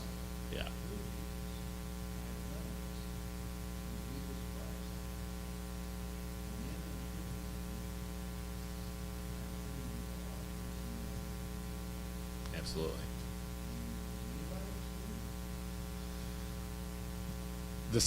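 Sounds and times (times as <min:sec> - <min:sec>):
faint distant voice speaking: 0:00.0 - 0:11.8, 0:12.5 - 0:16.0
electrical mains hum: 0:00.0 - 0:18.0.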